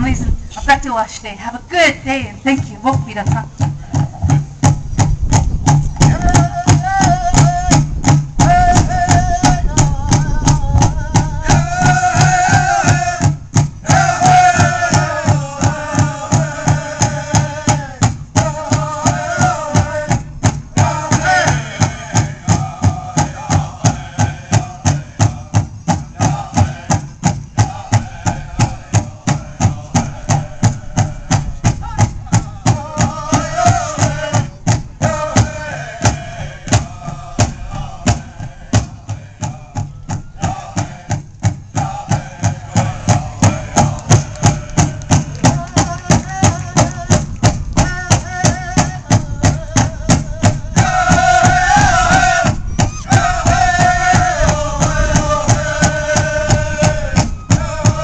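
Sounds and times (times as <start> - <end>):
steady drumbeat: 2.2 - 58.0
people singing: 6.0 - 58.0.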